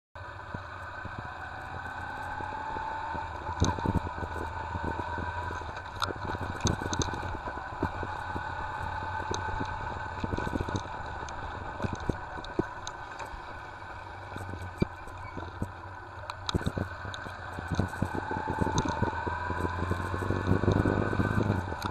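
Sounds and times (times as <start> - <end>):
motorcycle engine running: 0.2 - 21.9.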